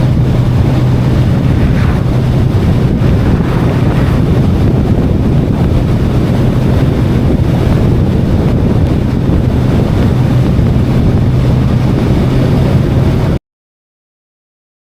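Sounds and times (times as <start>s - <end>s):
motorcycle engine droning: 0.0s - 13.0s
wind rushing over microphone: 0.0s - 13.4s.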